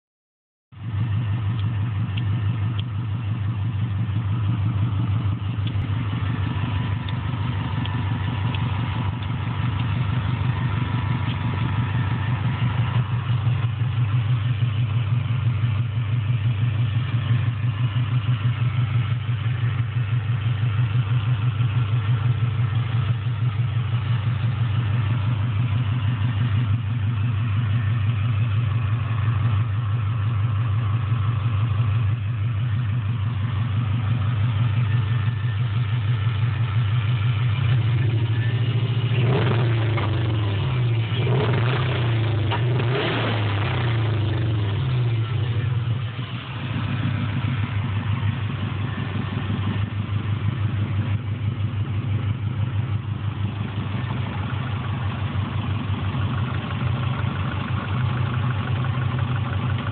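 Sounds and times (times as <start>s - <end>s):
car engine idling: 0.7s - 59.9s.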